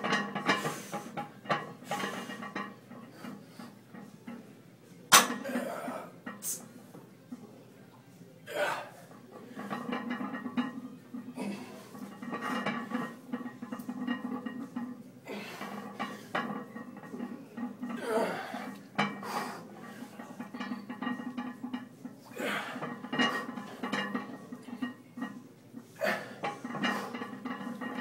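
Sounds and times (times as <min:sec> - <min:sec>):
weight plates clinking: 0:00.0 - 0:04.4, 0:09.4 - 0:28.0.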